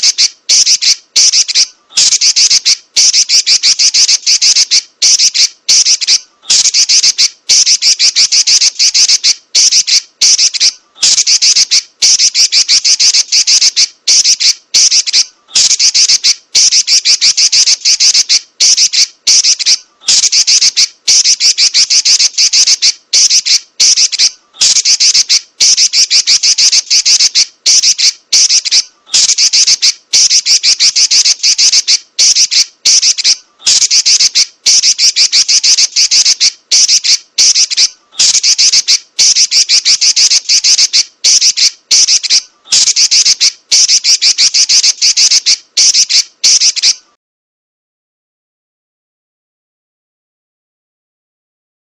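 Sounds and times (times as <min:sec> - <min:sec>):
bird chattering trills: 0:00.0 - 0:47.1.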